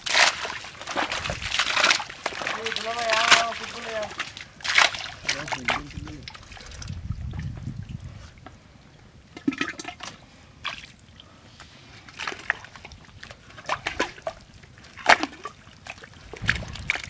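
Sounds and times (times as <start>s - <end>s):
mud and water sloshing: 0.0s - 8.5s, 9.2s - 17.0s.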